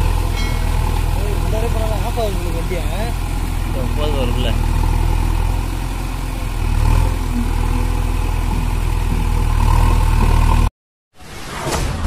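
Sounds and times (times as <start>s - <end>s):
diesel engine idling: 0.0s - 10.7s.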